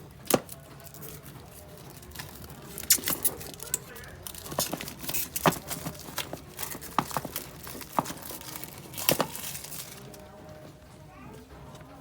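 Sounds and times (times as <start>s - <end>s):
packaging crinkling: 0.2s - 10.4s.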